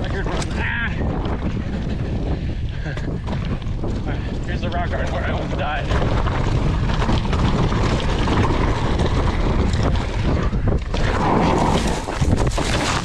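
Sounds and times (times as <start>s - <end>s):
mountain bike rattles and knocks: 0.0s - 13.0s
wind rushing over microphone: 0.0s - 13.0s.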